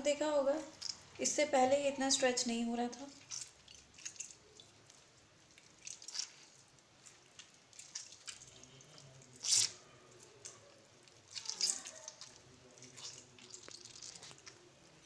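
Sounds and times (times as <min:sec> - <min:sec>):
wet squelching of cheese curd: 0:00.4 - 0:01.2, 0:02.3 - 0:15.0
water splashing in a steel bowl: 0:02.9 - 0:15.0.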